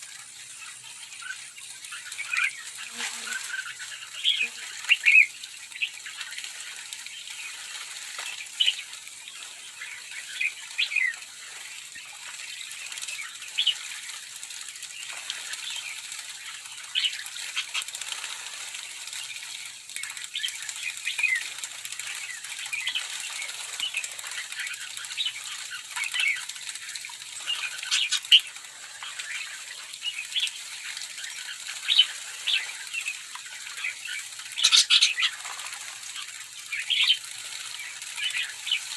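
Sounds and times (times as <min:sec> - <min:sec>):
flock of birds chirping: 0:00.0 - 0:38.9
wings fluttering: 0:00.3 - 0:38.9.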